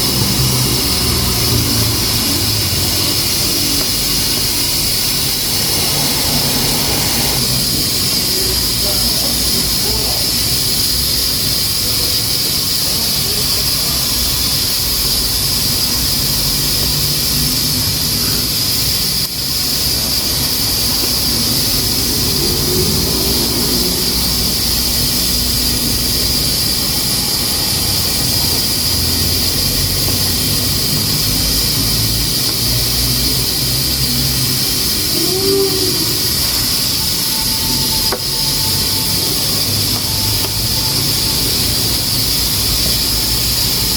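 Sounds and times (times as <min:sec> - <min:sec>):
pressure cooker hissing: 0:00.0 - 0:43.9.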